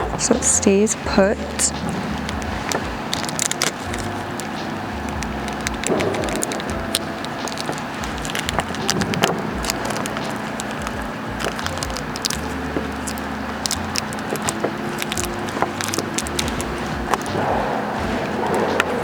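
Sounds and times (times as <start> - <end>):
low steady hum: 0.0 - 19.0
hands handling tape and plastic: 0.1 - 19.0.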